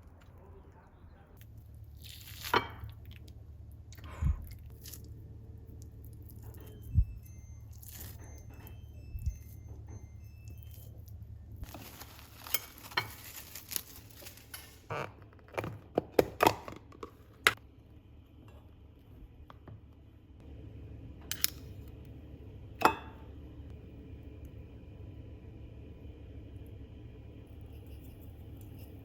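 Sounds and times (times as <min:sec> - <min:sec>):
steady low hum: 0:00.0 - 0:14.9, 0:17.2 - 0:29.0.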